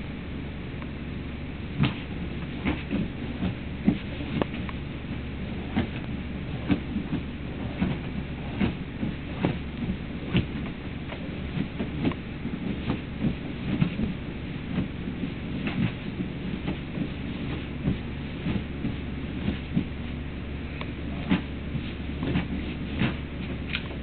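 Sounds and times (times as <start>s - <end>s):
puppy paws scratching upholstery: 1.7s - 24.0s.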